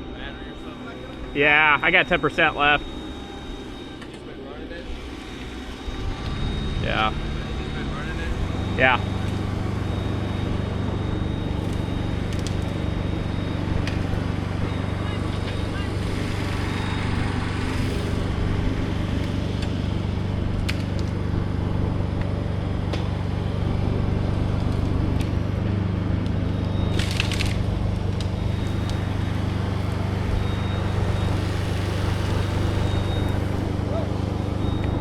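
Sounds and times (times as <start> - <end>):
motor engine humming: 0.0 - 35.0.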